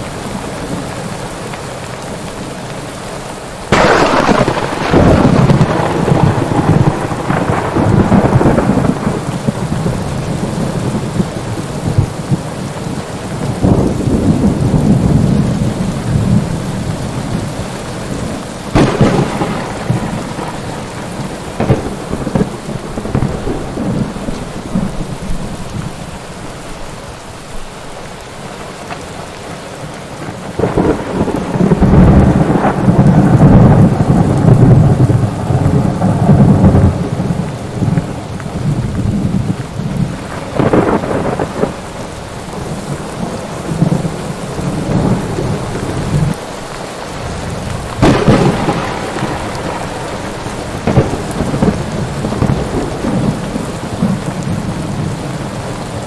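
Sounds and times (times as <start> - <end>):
heavy rain: 0.0 - 56.0
thunder cracks and rumble: 3.7 - 26.0, 30.3 - 46.4, 47.2 - 55.8.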